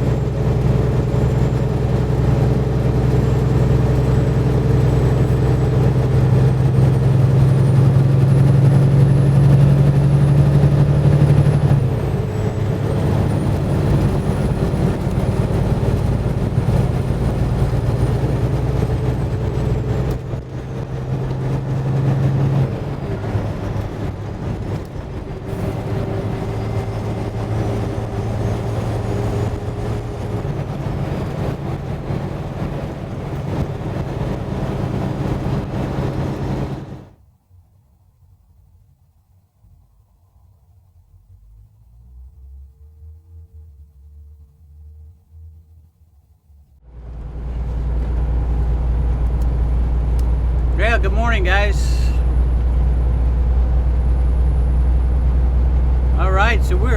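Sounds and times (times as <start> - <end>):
truck diesel engine running: 0.0 - 37.1, 46.8 - 56.9.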